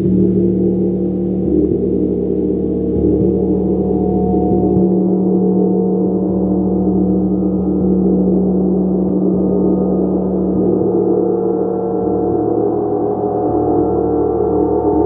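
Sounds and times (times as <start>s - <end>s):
gong shimmering drone: 0.0s - 15.0s.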